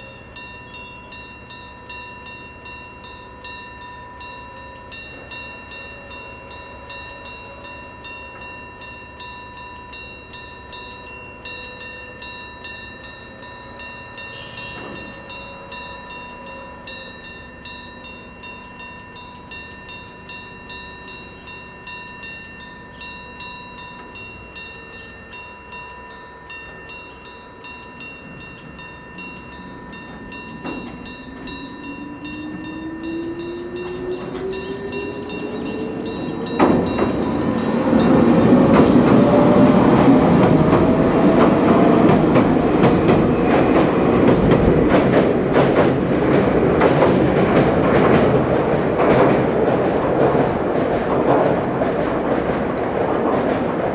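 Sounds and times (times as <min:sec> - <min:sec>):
level crossing bell ringing: 0:00.0 - 0:44.3
electric train motor whine: 0:00.0 - 0:45.6
train rumbling over steel bridge: 0:00.0 - 0:53.9.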